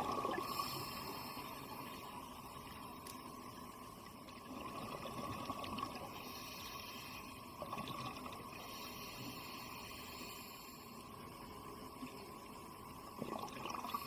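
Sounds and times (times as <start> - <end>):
water sloshing and bubbling: 0.0 - 14.0.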